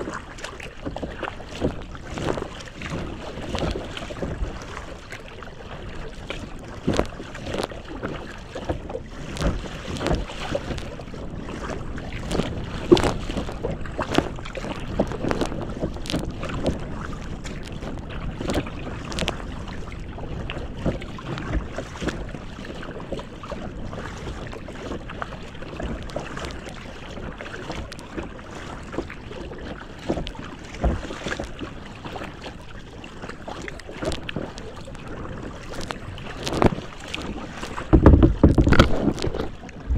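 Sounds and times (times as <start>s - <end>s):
wind buffeting microphone: 0.0s - 28.9s, 29.9s - 39.9s
water splashing against kayak: 0.0s - 39.9s.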